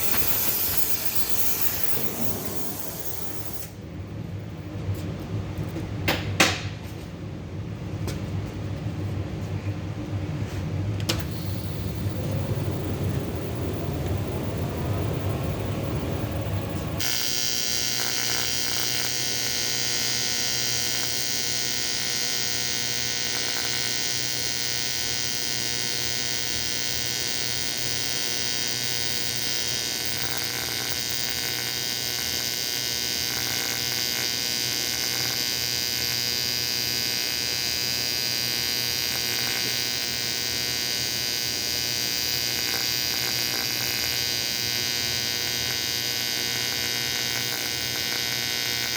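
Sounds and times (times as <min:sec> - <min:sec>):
welding arc buzzing: 0:00.0 - 0:03.9, 0:11.1 - 0:48.9.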